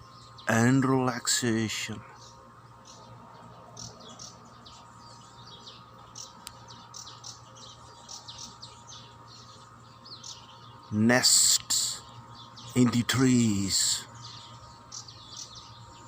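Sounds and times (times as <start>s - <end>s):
faint steady hum: 0.0s - 16.0s
small birds chirping: 0.0s - 16.0s.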